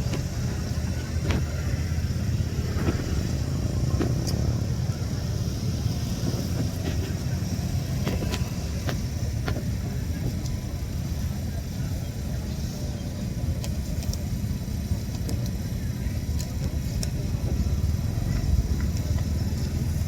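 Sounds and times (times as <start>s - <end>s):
ferry engine rumble: 0.0s - 20.0s.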